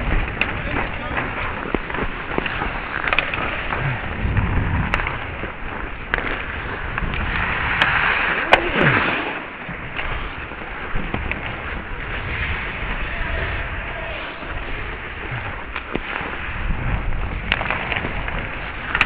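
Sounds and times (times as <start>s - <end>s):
sticks and puck clicking: 0.0s - 4.2s, 4.8s - 19.0s
skates scraping on ice: 0.0s - 19.0s.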